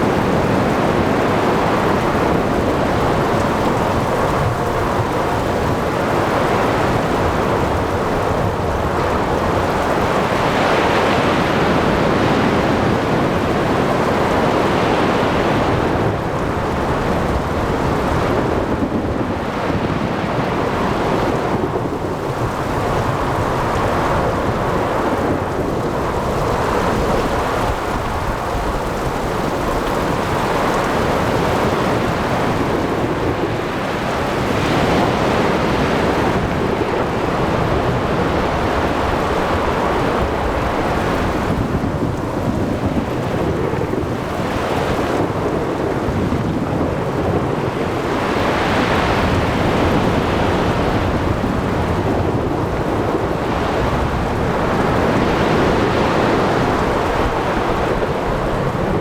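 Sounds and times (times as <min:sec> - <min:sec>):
heavy rain: 0:00.0 - 0:59.0
wind: 0:00.0 - 0:59.0.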